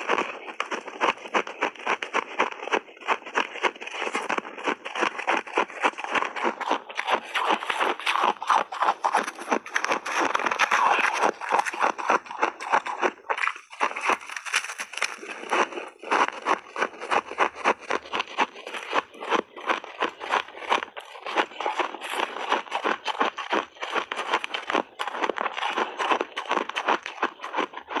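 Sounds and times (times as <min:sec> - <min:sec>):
shaved ice crunching: 0:00.0 - 0:28.0.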